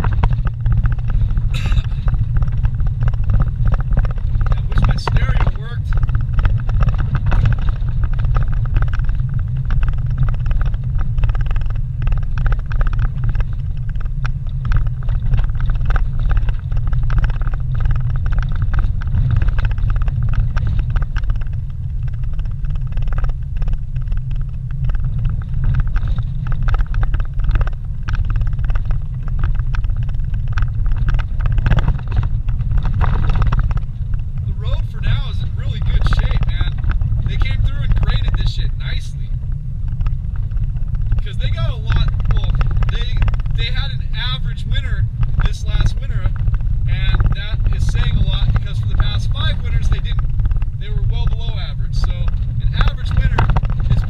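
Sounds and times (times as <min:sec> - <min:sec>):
knocks and rattles in cabin: 0:00.0 - 0:39.2, 0:40.5 - 0:54.0
vehicle engine and road rumble: 0:00.0 - 0:54.0.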